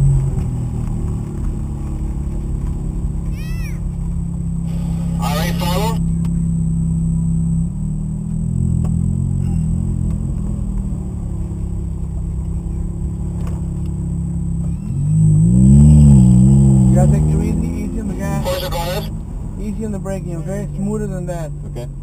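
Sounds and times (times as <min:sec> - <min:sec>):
car engine running at low revs: 0:00.0 - 0:22.0.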